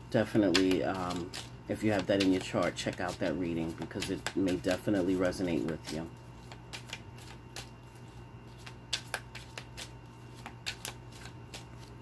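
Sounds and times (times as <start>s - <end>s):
cards being shuffled: 0.3s - 12.0s.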